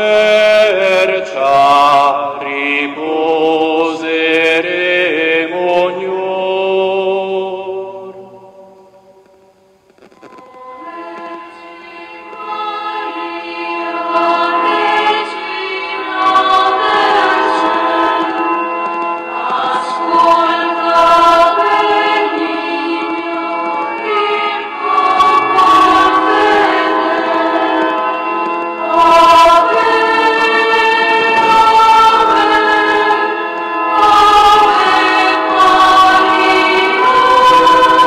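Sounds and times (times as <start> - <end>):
choir singing a hymn: 0.0 - 8.4, 10.8 - 38.0.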